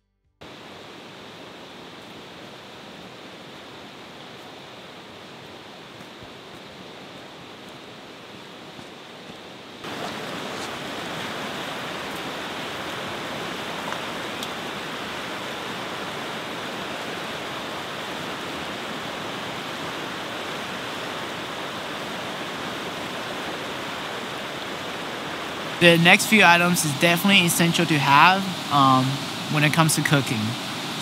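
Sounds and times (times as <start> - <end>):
river rapids rushing: 0.4 - 31.0.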